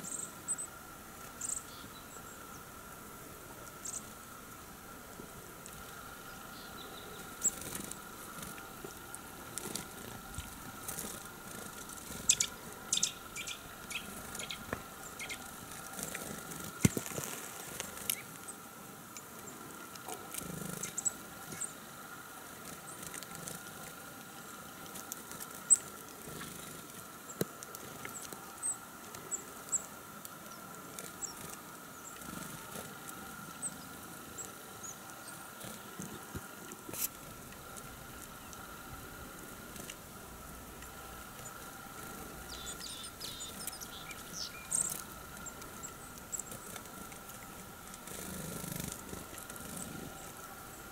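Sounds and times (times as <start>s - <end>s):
birds pecking at feeder: 5.1s - 18.6s, 19.2s - 50.9s.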